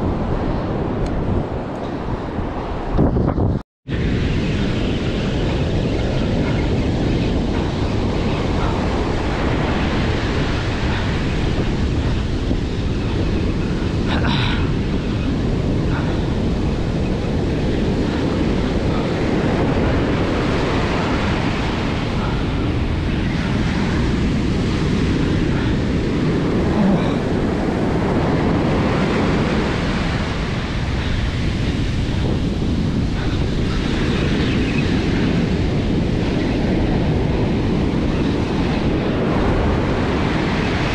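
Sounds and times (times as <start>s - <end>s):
surf breaking and washing: 0.0s - 40.9s
wind buffeting microphone: 0.0s - 40.9s.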